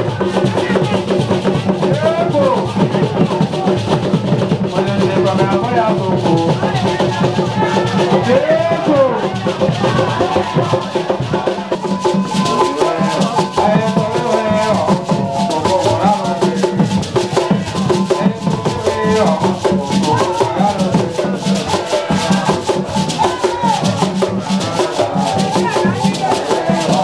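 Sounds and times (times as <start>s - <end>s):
ceremonial drumming: 0.0s - 27.0s
shaken rattles: 0.0s - 27.0s
voices singing: 0.0s - 27.0s.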